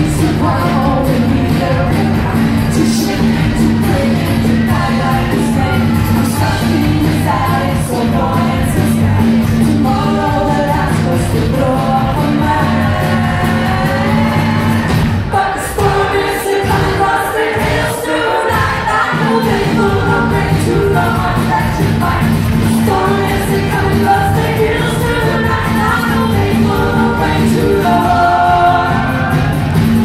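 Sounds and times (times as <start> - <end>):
live band playing folk-pop: 0.0 - 30.0
women singing: 0.0 - 30.0.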